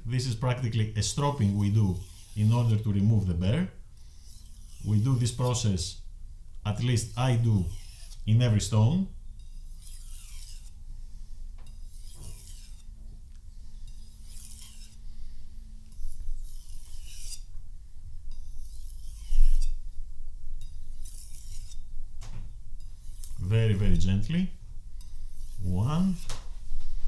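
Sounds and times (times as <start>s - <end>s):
knife scraping on whetstone: 0.3s - 5.8s, 6.7s - 17.6s, 18.3s - 21.9s, 22.8s - 24.3s, 25.0s - 26.5s.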